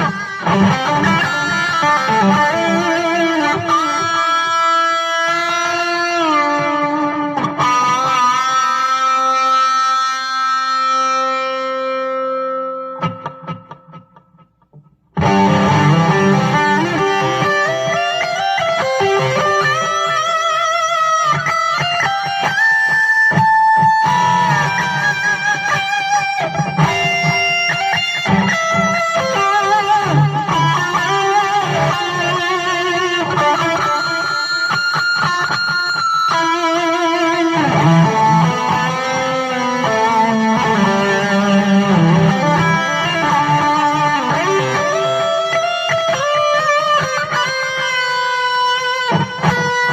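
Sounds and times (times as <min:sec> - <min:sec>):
overdriven electric guitar solo: 0:00.0 - 0:49.9.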